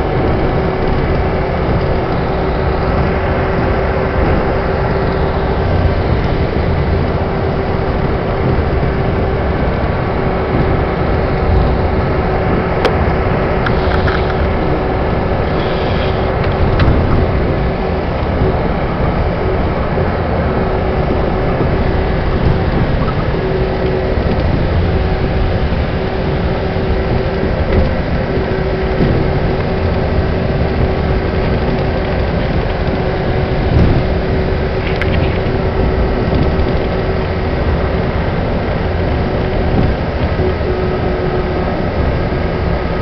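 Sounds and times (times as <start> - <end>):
wind noise: 0.0 - 43.0.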